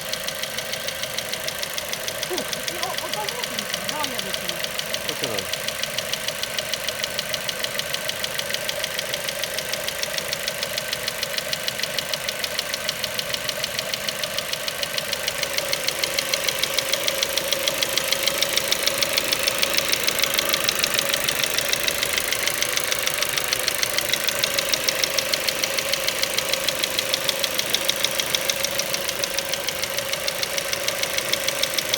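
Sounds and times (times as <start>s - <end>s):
car engine idling with knock: 0.0s - 31.9s.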